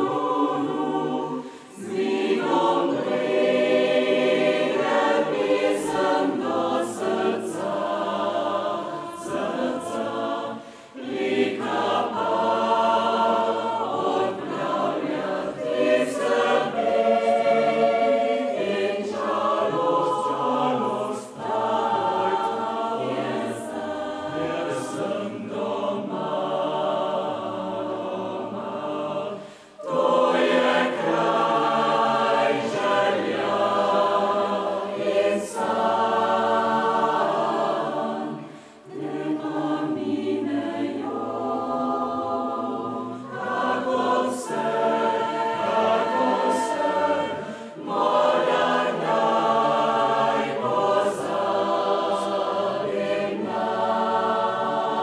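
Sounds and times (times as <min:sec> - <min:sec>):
choir breaths: 0:00.0 - 0:55.0
mixed choir singing: 0:00.0 - 0:55.0.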